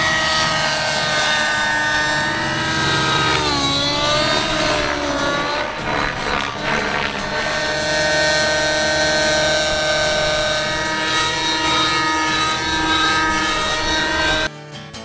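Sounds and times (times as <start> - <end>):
model helicopter engine whine: 0.0 - 15.0.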